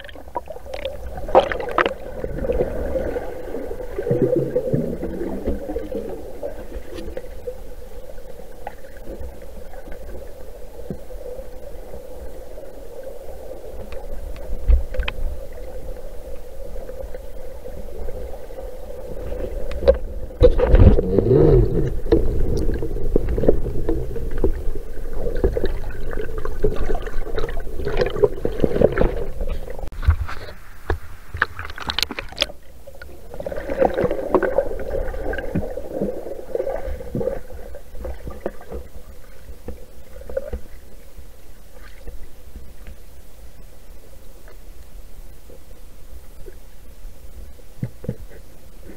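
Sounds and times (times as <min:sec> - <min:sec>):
underwater water rushing: 0:00.0 - 0:43.0
steady hum: 0:00.0 - 0:48.9.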